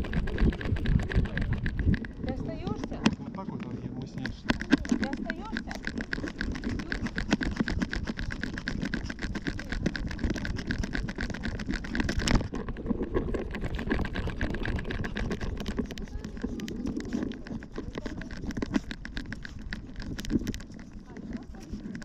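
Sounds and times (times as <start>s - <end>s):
dog footsteps clicking and scuffing: 0.0s - 22.0s.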